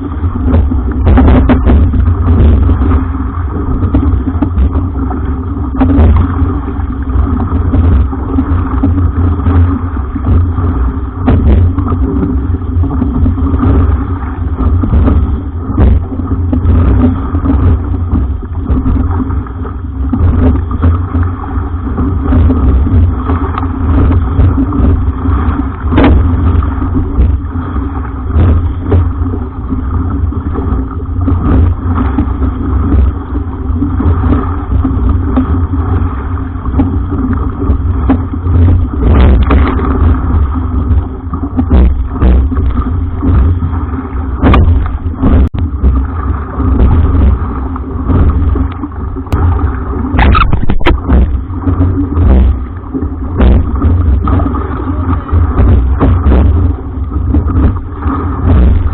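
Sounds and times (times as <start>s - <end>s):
water splashes: 0.0s - 58.9s
wind buffeting microphone: 0.0s - 58.9s.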